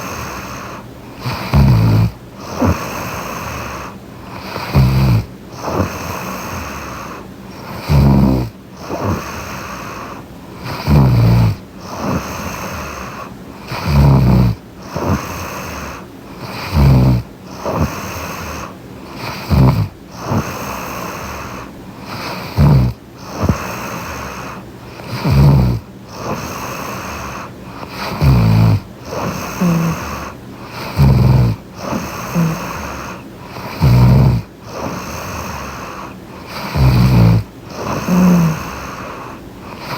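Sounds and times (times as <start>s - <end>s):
soft breathing: 0.0s - 39.9s
woman snoring: 0.0s - 39.9s.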